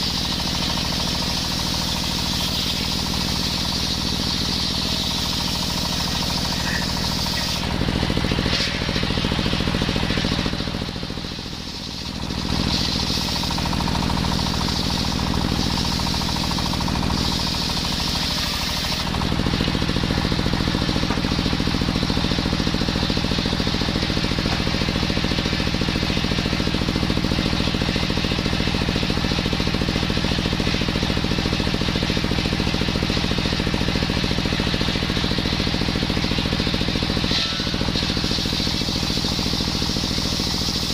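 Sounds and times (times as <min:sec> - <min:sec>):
brush-cutter engine sawing wood: 0:00.0 - 0:40.9.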